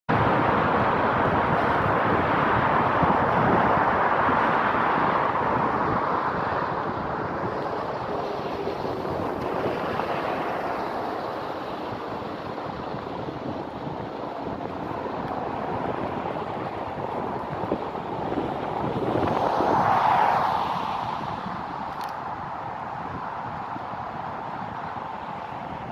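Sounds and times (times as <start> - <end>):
wind rushing over microphone: 0.1 - 25.9.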